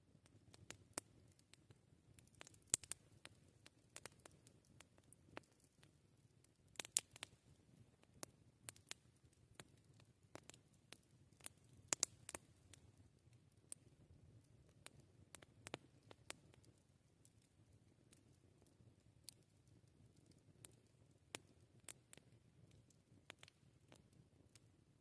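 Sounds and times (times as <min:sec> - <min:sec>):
campfire crackling: 0:00.0 - 0:24.8
faint fire rumble: 0:00.0 - 0:25.0.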